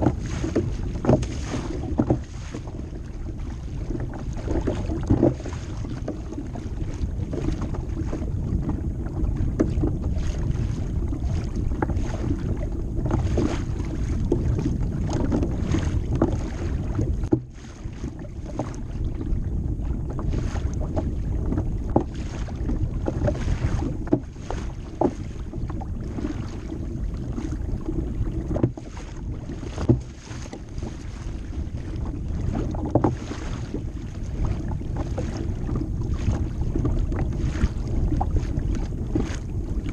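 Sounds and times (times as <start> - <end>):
water lapping against kayak hull: 0.0 - 39.9
wind on microphone: 0.0 - 39.9.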